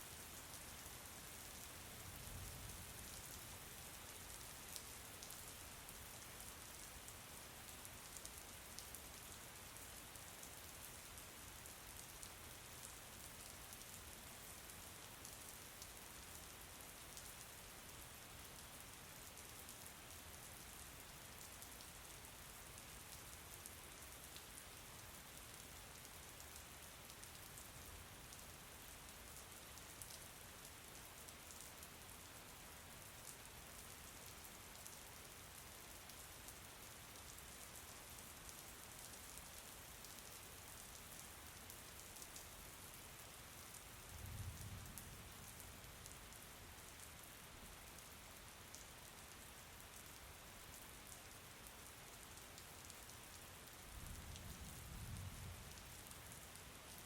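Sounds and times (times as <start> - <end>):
faint rainfall: 0.0 - 57.0.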